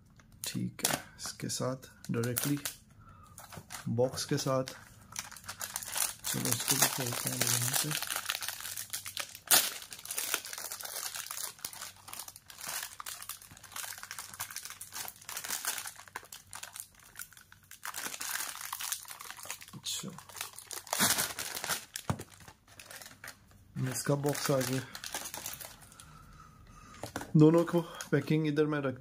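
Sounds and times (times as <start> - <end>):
plastic snack wrapper crinkling: 2.0 - 2.8, 3.4 - 26.1.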